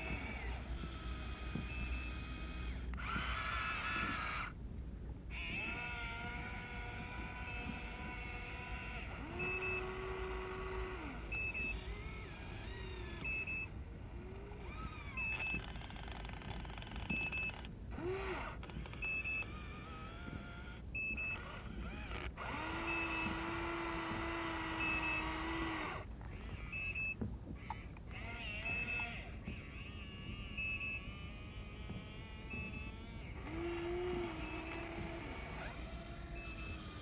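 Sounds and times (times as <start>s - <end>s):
electric motors whining: 0.0s - 4.6s, 5.3s - 27.0s, 27.6s - 37.0s.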